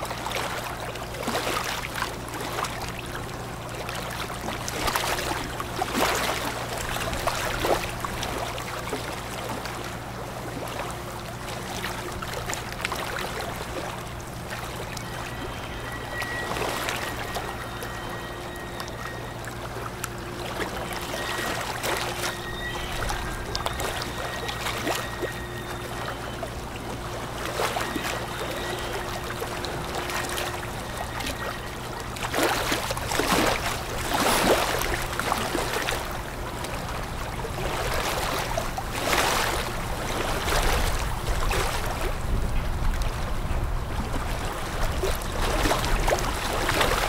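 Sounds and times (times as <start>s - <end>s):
faint high whine: 0.0s - 47.0s
rushing water: 0.0s - 47.0s
ship engines droning: 0.0s - 47.0s.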